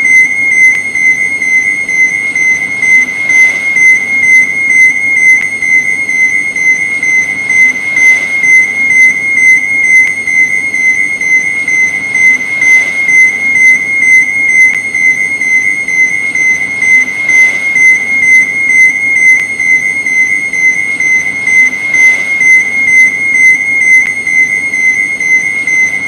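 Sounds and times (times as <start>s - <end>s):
high-pitched beeping alarm: 0.0s - 26.0s.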